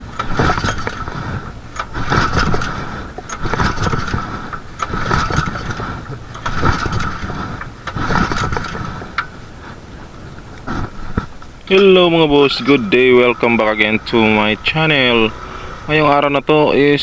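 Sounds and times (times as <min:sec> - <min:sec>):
engine being pull-started: 0:00.0 - 0:16.3.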